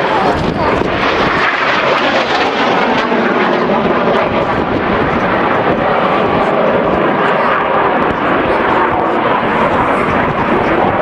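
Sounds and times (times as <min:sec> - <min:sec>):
jet aircraft engines overhead: 0:00.0 - 0:11.0.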